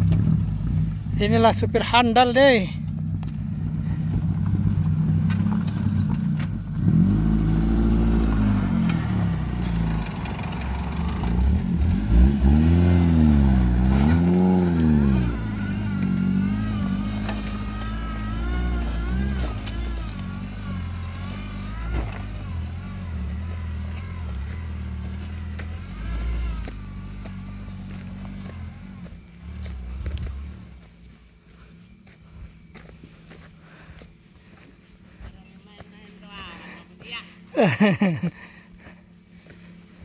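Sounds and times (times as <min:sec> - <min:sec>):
vehicle engine revving: 0:00.0 - 0:40.0.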